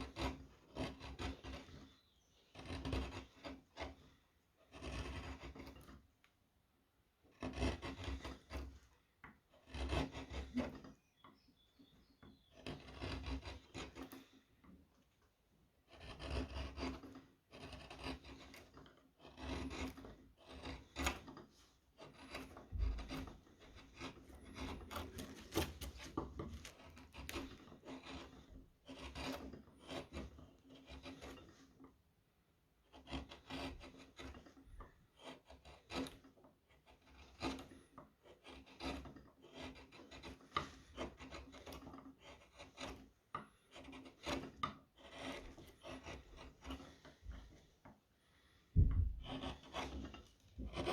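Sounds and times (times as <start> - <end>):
chisel scraping wood: 0.0 - 6.3, 7.2 - 32.2, 32.8 - 50.9.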